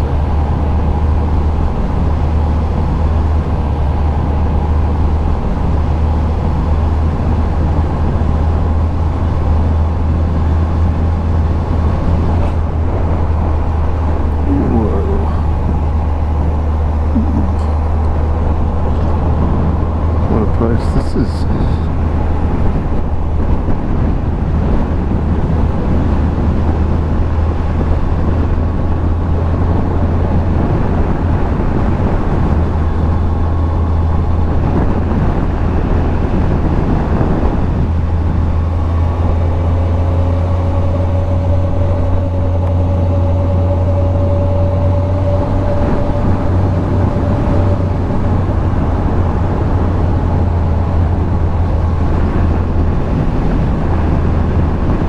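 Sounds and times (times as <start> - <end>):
motorcycle engine cruising: 0.0 - 21.0, 21.7 - 55.0
thin steady engine tone: 0.0 - 55.0
wind rush on microphone: 0.0 - 55.0.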